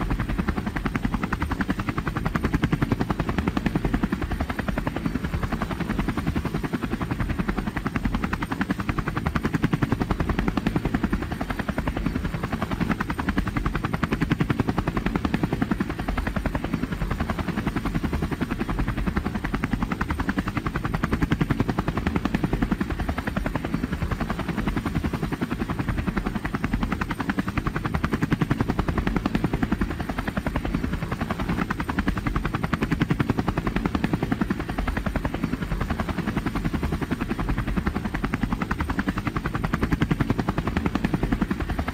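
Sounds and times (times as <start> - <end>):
helicopter rotor beating: 0.0 - 41.9.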